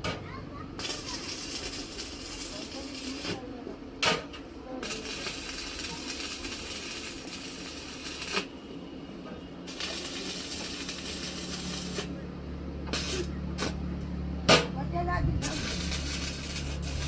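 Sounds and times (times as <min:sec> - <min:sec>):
arc welding crackling sizzle: 0:00.6 - 0:14.1, 0:15.4 - 0:17.0.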